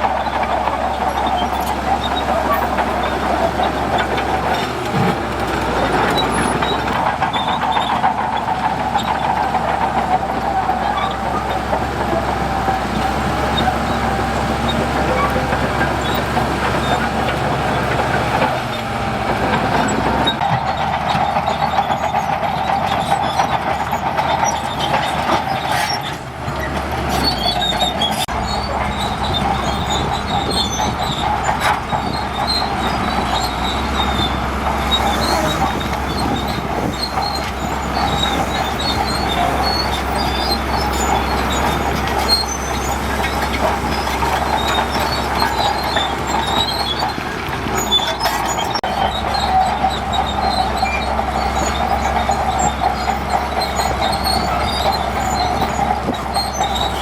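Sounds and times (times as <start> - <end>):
diesel engine under load: 0.0 - 57.0
steel tracks squealing and clattering: 0.0 - 57.0.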